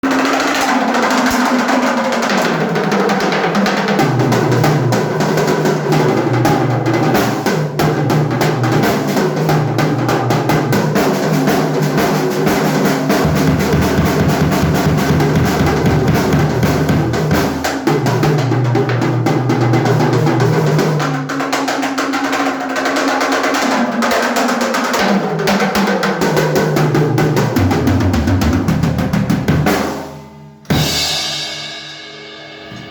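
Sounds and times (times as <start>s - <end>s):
acoustic drum kit playing: 0.0s - 32.9s.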